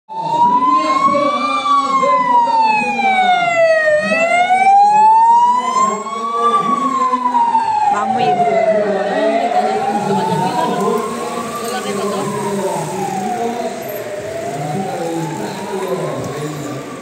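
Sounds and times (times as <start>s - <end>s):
police siren wailing: 0.1s - 17.0s.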